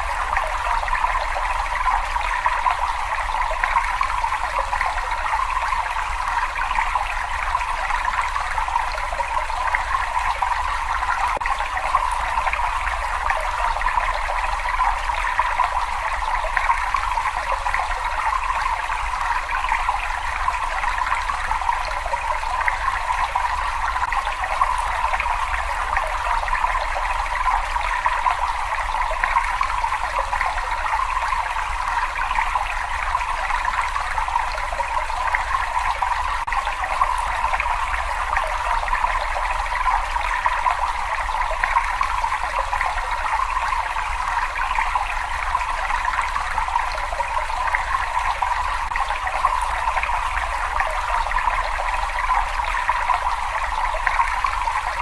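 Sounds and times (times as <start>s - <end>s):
water running in a cave: 0.0s - 55.0s.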